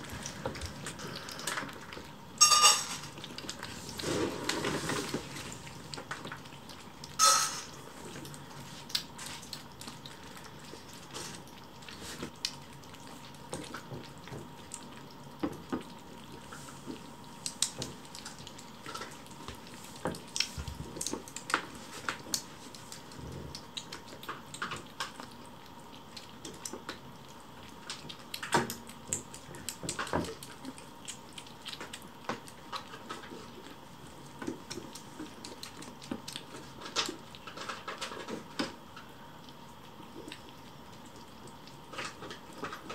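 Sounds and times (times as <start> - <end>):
kittens lapping and chewing: 0.0 - 42.9.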